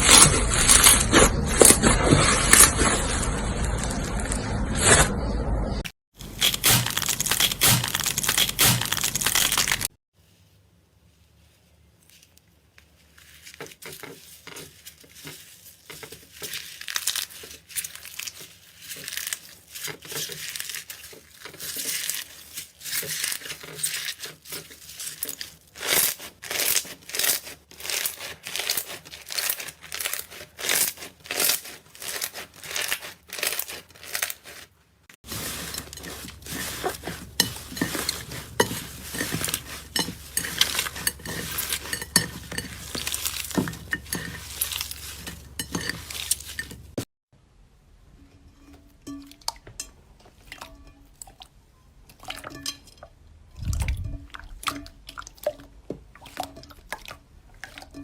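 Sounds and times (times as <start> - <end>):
slime squelching: 0.0 - 9.9, 13.0 - 47.1, 53.5 - 58.0.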